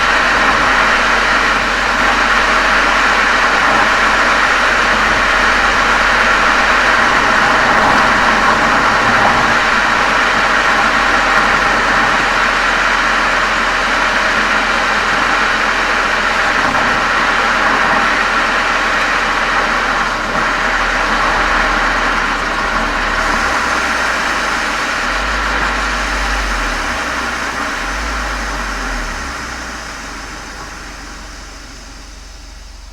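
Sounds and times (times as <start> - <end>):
car exhaust running: 0.0 - 32.9.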